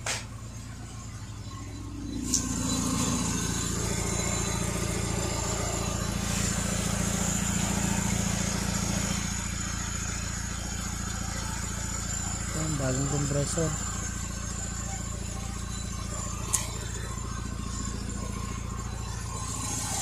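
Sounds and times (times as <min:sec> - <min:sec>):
car engine idling: 0:00.0 - 0:20.0
faint high whine: 0:00.0 - 0:20.0.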